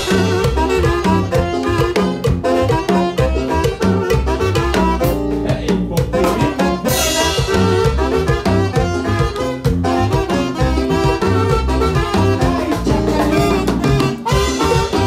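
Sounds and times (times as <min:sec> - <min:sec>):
latin dance band music: 0:00.0 - 0:15.0.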